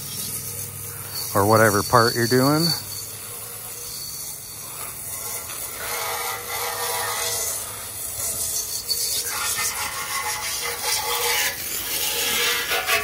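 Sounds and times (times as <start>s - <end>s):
hose nozzle spraying water on metal: 0.0s - 13.0s.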